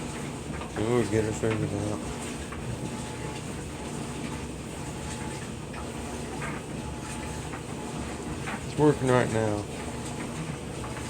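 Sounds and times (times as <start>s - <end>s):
gas furnace rumbling: 0.0s - 11.0s.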